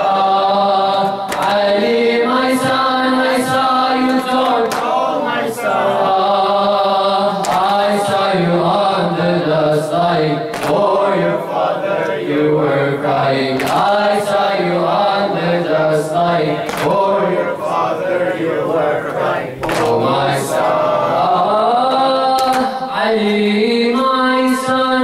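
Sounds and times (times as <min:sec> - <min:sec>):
men chanting a cappella lament: 0:00.0 - 0:25.0.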